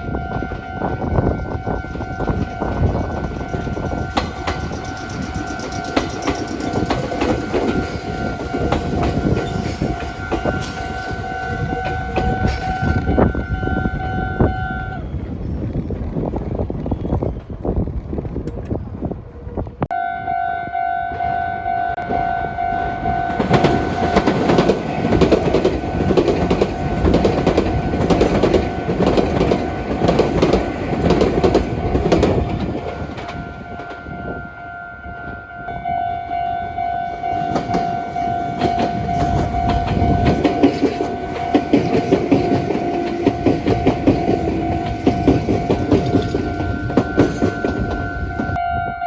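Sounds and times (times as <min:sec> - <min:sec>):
level-crossing warning bell: 0:00.0 - 0:14.9, 0:19.9 - 0:49.0
train wheel clatter: 0:00.2 - 0:19.2, 0:23.3 - 0:34.2, 0:37.1 - 0:48.6.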